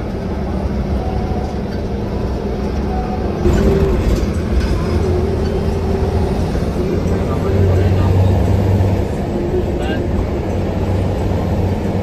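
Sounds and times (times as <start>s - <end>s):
bus diesel engine running: 0.0s - 12.0s
road noise: 0.0s - 12.0s.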